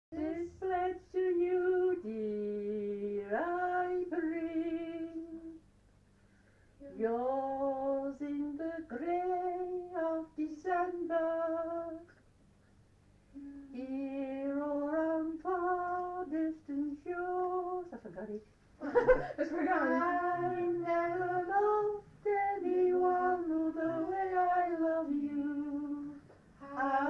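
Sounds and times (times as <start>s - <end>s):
woman singing unaccompanied: 0.1s - 5.6s, 6.8s - 12.1s, 13.4s - 18.1s, 19.4s - 27.0s.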